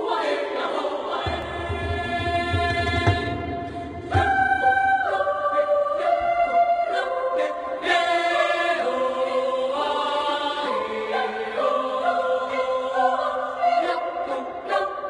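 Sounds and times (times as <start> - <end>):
choir singing in parts: 0.0 - 15.0.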